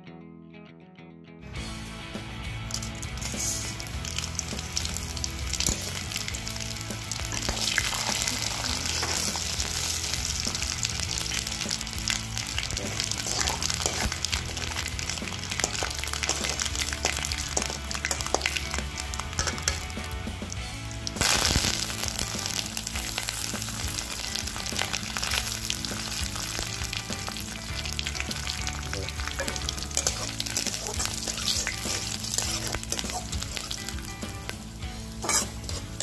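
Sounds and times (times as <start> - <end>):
spices sizzling in hot oil: 2.2 - 36.0
loud spluttering sizzle: 2.6 - 36.0.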